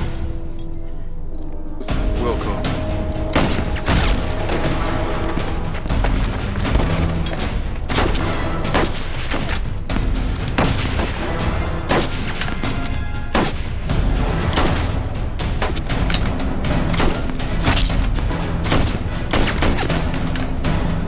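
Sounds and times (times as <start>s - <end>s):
background music: 0.0s - 21.0s
gunshots and booms: 3.2s - 21.0s.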